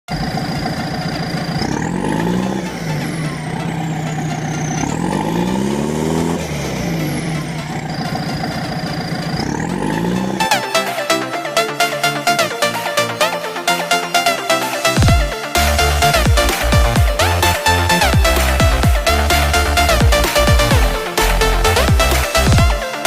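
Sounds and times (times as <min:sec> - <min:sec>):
heavy vehicle engine revving: 0:00.1 - 0:23.0
music with a beat: 0:00.5 - 0:23.0.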